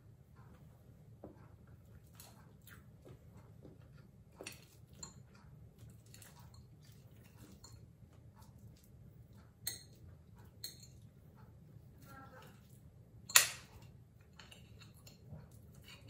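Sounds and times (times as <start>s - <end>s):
faint low hum: 0.0s - 16.0s
quiet chewing: 0.2s - 16.0s.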